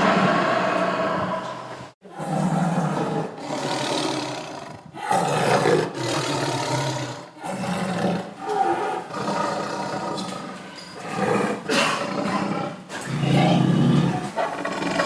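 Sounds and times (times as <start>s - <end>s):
tiger roaring and growling: 0.0s - 15.0s.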